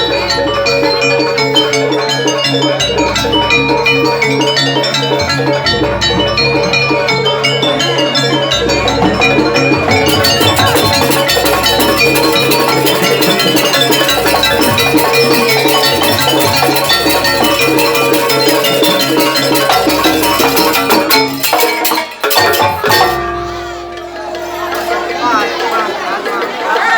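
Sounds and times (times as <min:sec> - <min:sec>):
drums: 0:00.0 - 0:26.9
tuned metal percussion: 0:00.0 - 0:26.9.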